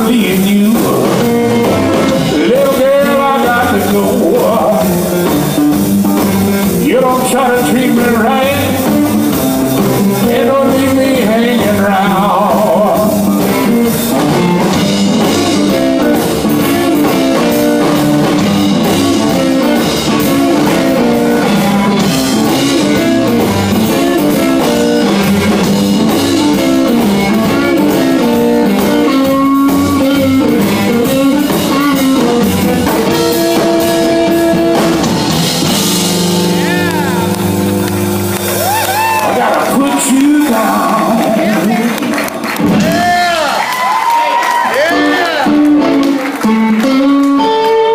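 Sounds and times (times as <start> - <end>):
bass and drum kit groove: 0.0 - 47.9
electric guitar with bending notes: 0.0 - 47.9.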